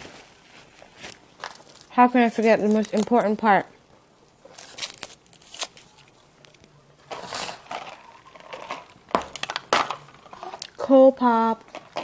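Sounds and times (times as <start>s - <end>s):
food packaging crinkling: 0.0s - 3.5s, 4.4s - 10.8s.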